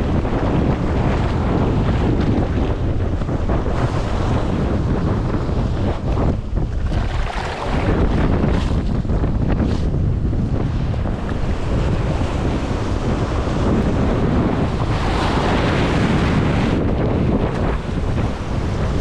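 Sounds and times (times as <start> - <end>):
sea waves breaking: 0.0 - 19.0
wind buffeting microphone: 0.0 - 19.0.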